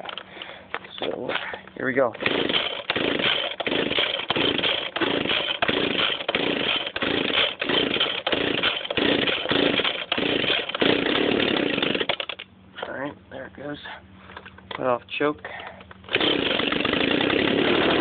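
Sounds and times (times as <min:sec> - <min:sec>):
leaf blower engine cranking: 0:00.0 - 0:12.9, 0:15.6 - 0:18.0
recoil starter pulls: 0:00.0 - 0:12.9, 0:15.6 - 0:18.0.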